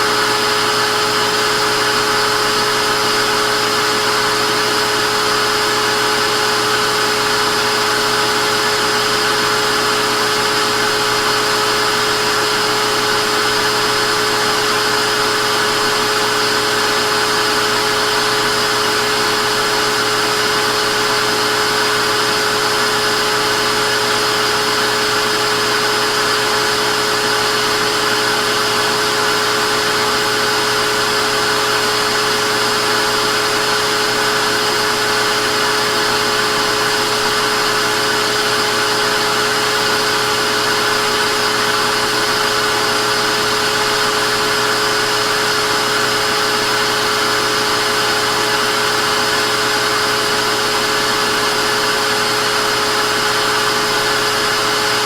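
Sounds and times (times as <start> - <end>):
vacuum cleaner motor running: 0.0 - 55.0.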